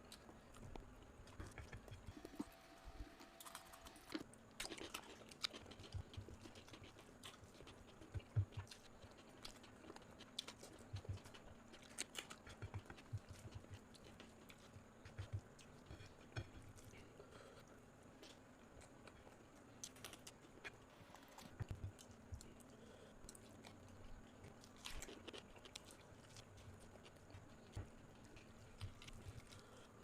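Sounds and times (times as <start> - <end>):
person chewing food: 0.0 - 2.5, 3.2 - 30.0.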